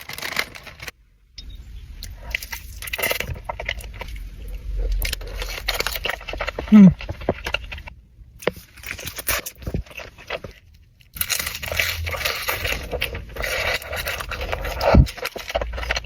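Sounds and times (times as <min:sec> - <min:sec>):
crunching and chewing food: 0:00.0 - 0:01.0, 0:02.0 - 0:16.0.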